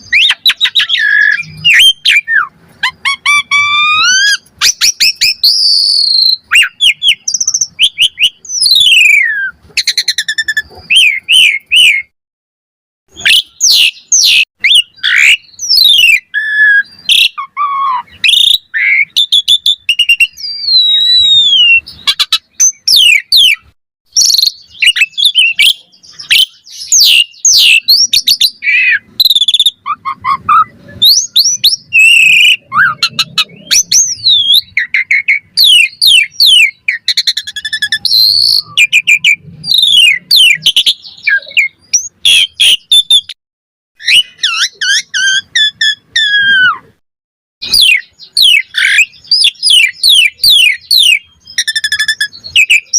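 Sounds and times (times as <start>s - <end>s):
starling singing: 0.0s - 12.1s, 13.1s - 43.4s, 44.0s - 47.0s, 47.6s - 52.9s.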